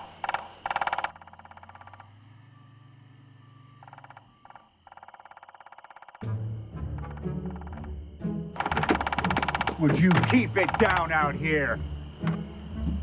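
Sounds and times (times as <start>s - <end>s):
woodpecker drumming: 0.0s - 13.0s.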